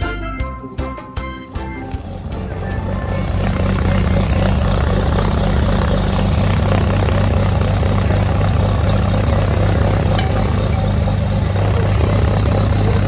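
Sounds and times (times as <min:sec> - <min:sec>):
propeller airplane engine droning: 0:01.5 - 0:13.0.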